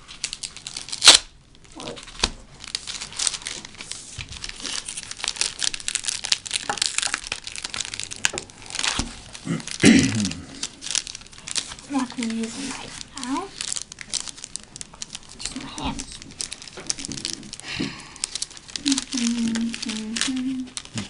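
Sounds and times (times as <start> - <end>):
foam wrap crinkling: 0.0 - 21.0.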